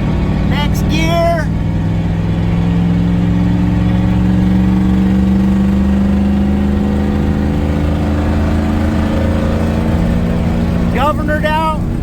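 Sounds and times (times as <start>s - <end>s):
diesel engine at full throttle: 0.0s - 12.0s.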